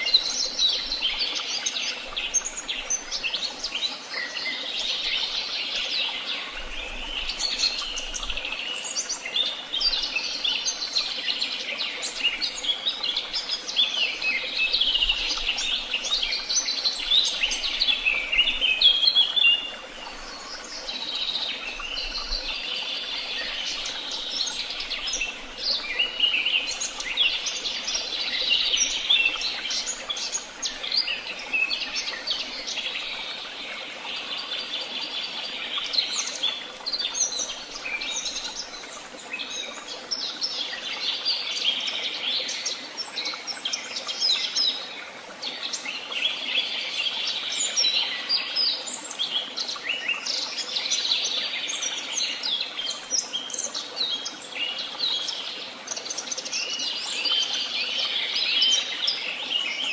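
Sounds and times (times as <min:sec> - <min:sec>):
songbirds chorus: 0:00.0 - 0:59.9.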